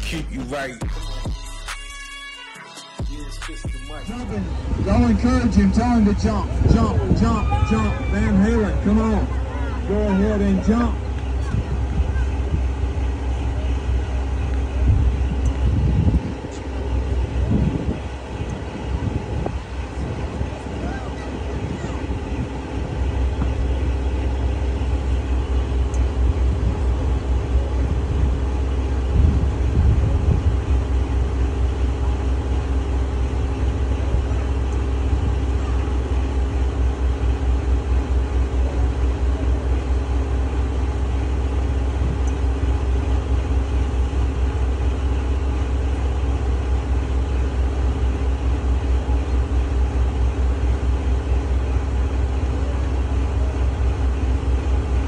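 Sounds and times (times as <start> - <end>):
boat engine rumbling: 3.1 - 55.0.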